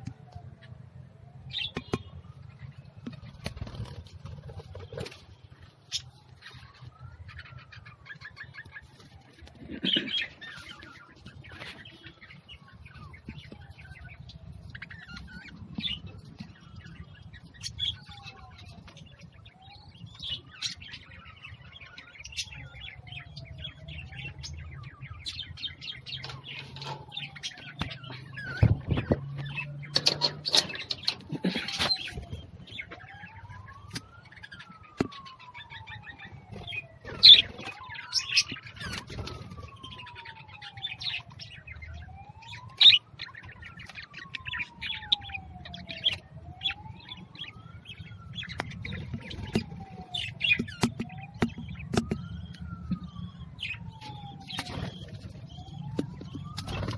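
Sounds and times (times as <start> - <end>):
caged birds chirping: 0.0 - 56.9.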